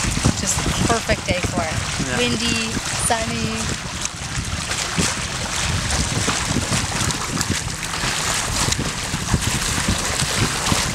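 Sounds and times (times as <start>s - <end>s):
water rushing and splashing on hulls: 0.0s - 10.9s
wind buffeting microphone: 0.0s - 10.9s.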